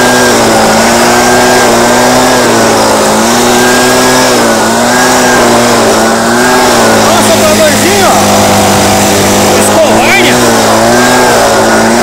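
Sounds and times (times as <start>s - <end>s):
leaf blower engine running: 0.0s - 12.0s.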